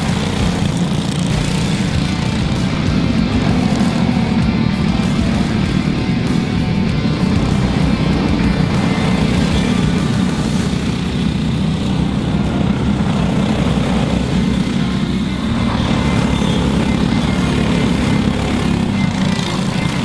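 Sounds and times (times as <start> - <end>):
go-kart engines droning: 0.0 - 20.0.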